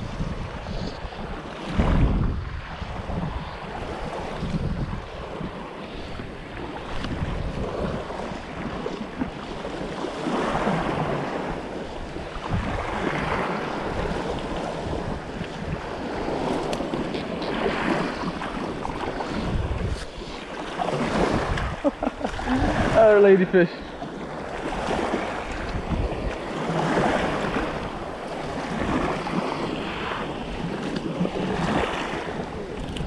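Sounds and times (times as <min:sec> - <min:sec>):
surf washing up a beach: 0:00.0 - 0:33.0
wind buffeting microphone: 0:00.0 - 0:33.0.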